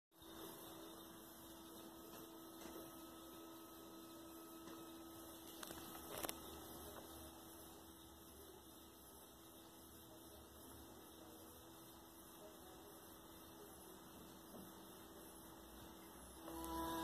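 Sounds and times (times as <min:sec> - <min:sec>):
faint low hum: 0:00.2 - 0:17.0.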